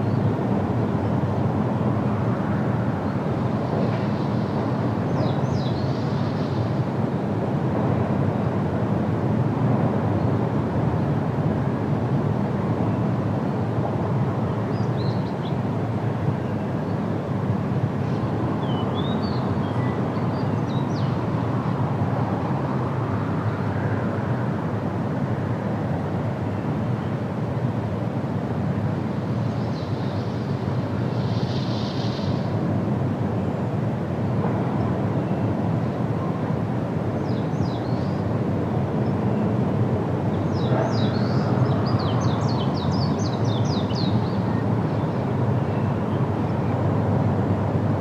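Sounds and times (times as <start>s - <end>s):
low rumbling background noise: 0.0s - 48.0s.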